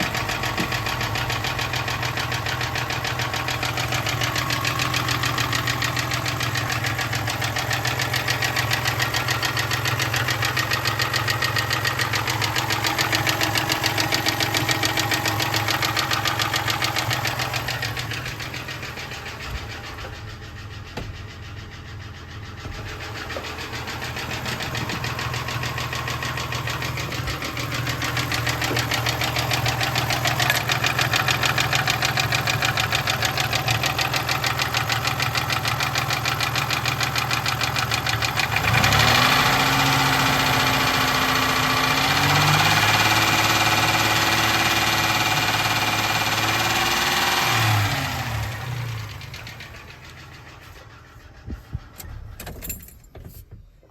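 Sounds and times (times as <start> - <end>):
engine running with fast knocking: 0.0 - 52.1.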